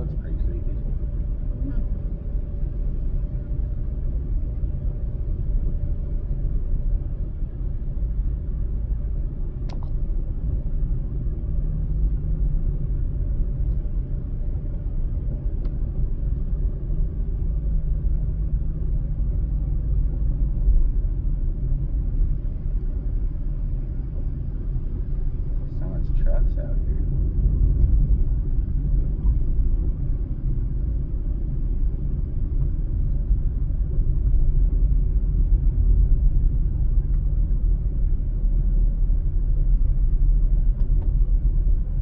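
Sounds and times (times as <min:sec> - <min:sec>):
car road and engine rumble: 0:00.0 - 0:42.0.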